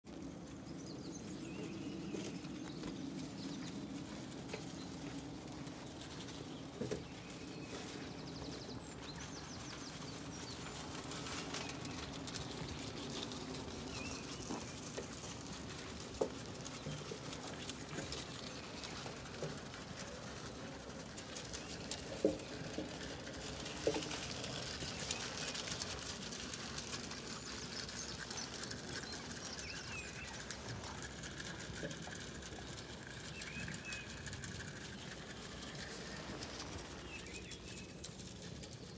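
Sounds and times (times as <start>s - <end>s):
hooves shuffling: 0.1s - 38.9s
sheep feeding noises: 0.1s - 38.9s
small birds chirping: 0.1s - 38.9s.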